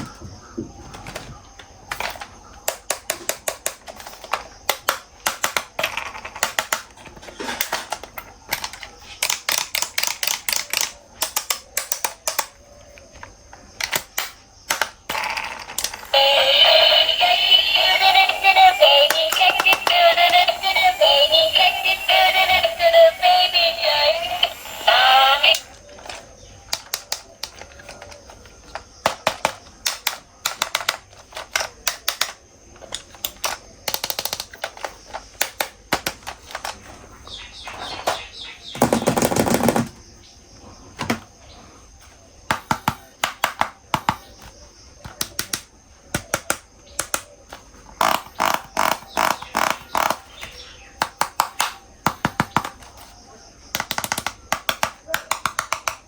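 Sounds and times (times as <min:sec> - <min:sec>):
plastic toys clicking and clattering: 0:00.0 - 0:40.0, 0:42.0 - 0:56.0.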